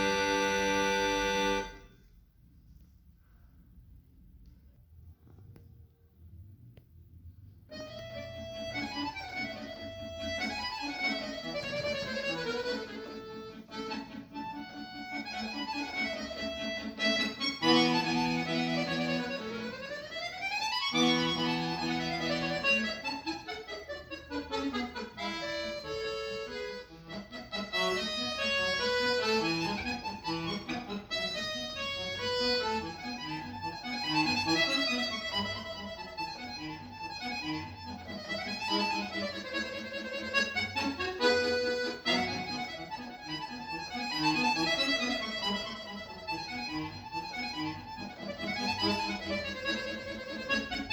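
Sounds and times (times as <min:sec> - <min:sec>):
accordion playing: 0:00.0 - 0:02.1, 0:07.7 - 0:50.9.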